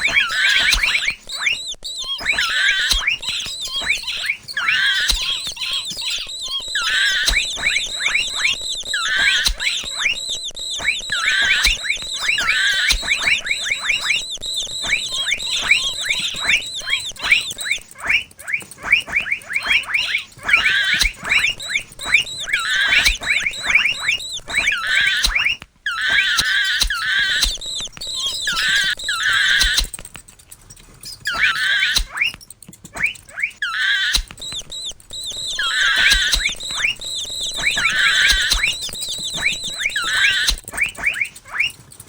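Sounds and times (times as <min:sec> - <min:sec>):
mouse squeaking: 0:00.0 - 0:30.2, 0:31.1 - 0:41.8.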